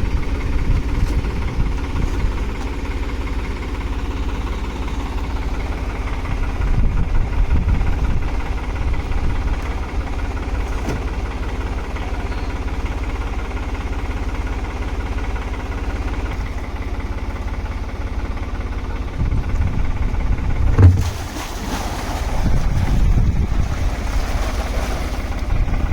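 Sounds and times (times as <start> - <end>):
tractor engine chugging: 0.0 - 25.9.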